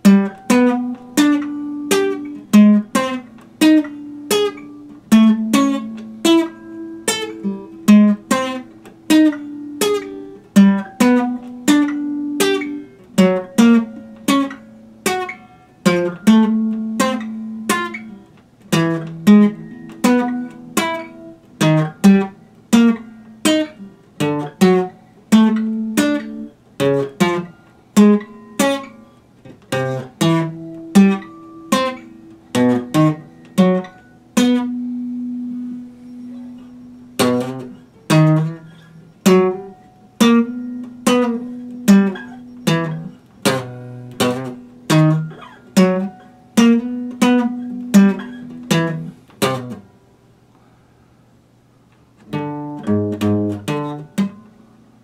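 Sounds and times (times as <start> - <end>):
fingerpicked acoustic guitar: 0.0 - 55.0.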